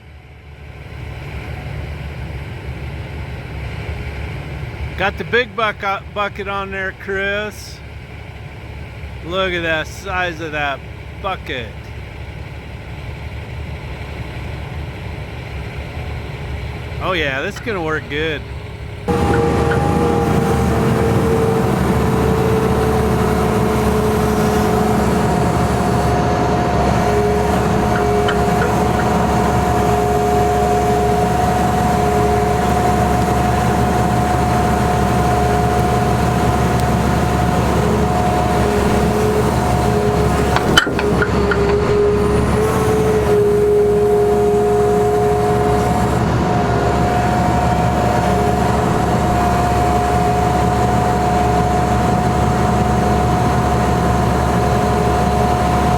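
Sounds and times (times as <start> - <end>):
excavator diesel engine running: 0.0 - 55.9
steady whining tones: 0.0 - 55.9.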